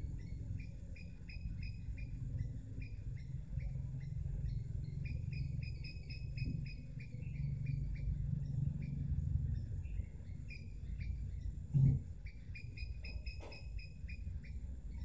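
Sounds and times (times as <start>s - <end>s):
bird chirping rapidly: 0.0s - 15.0s.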